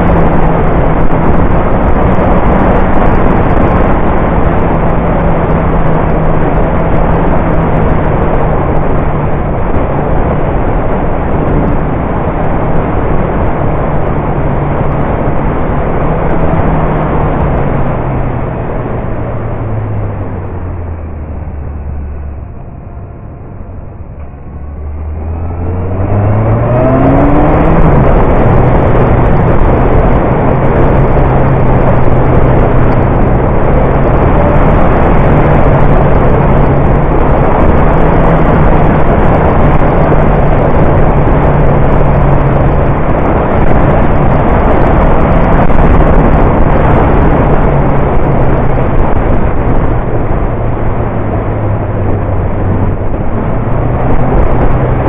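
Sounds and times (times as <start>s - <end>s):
motorcycle engine revving: 0.0s - 55.0s
wind rush on microphone: 0.0s - 55.0s.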